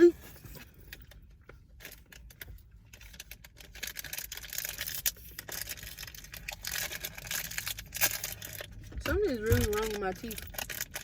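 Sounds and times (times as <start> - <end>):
plastic wrapper crinkling: 1.8 - 11.0.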